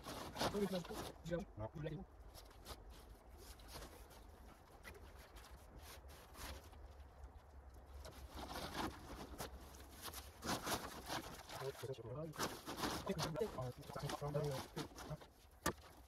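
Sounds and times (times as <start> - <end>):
plastic tarpaulins and leaves rustling: 0.0 - 16.0.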